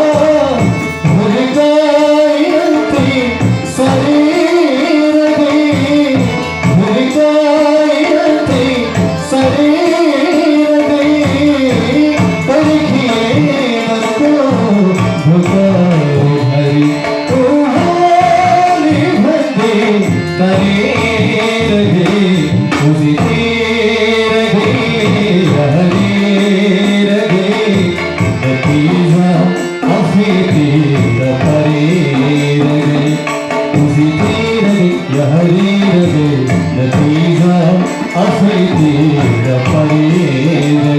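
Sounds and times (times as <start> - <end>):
person singing: 0.0 - 40.9
tabla and instruments playing: 0.0 - 40.9.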